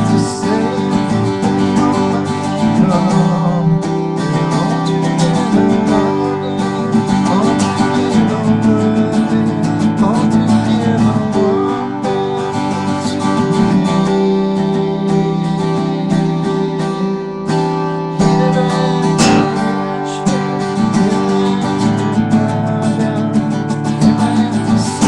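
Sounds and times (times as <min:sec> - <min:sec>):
strummed acoustic guitar chords: 0:00.0 - 0:25.0.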